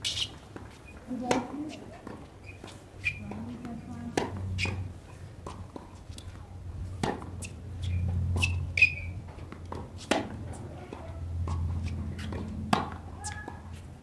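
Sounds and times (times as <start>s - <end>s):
shoes squeaking on court: 0.0s - 6.4s, 7.1s - 14.0s
tennis balls struck by rackets: 0.0s - 14.0s.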